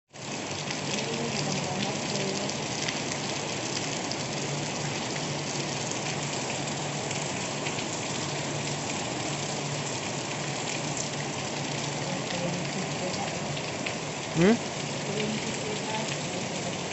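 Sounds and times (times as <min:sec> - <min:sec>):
heavy rain: 0:00.1 - 0:16.9.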